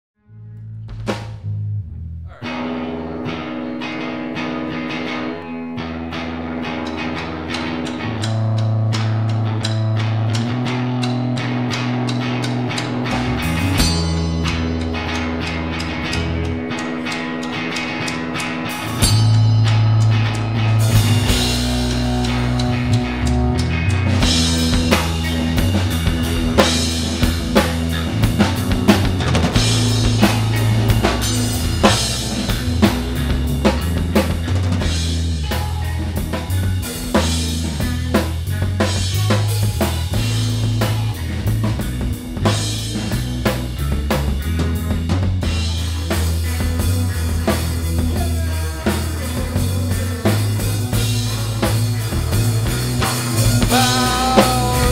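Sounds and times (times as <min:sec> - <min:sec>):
bass guitar: 0:00.1 - 0:54.9
electric guitar: 0:00.3 - 0:54.9
drum kit beat: 0:00.9 - 0:01.6, 0:06.4 - 0:54.9.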